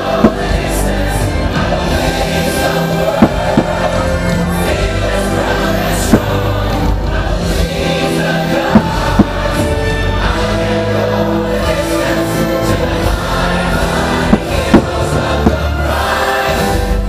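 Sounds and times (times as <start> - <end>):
music with choir singing: 0.0 - 17.0.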